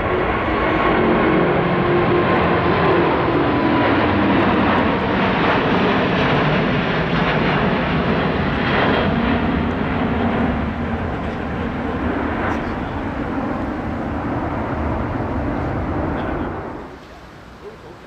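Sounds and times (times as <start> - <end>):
airliner engines running: 0.0 - 18.0
faint engine whine: 0.0 - 18.0.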